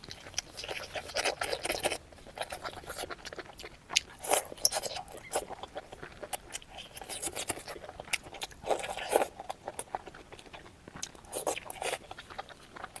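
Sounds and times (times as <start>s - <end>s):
person biting and chewing: 0.0s - 13.0s.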